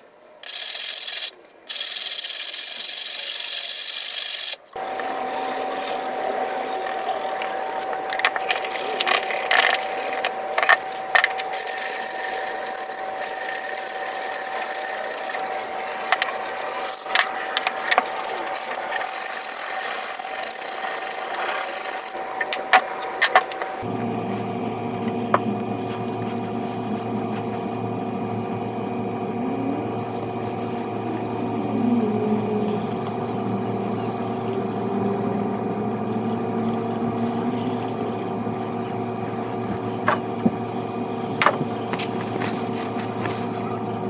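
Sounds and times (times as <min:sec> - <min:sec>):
steady hum of held tones: 0:04.7 - 0:44.0.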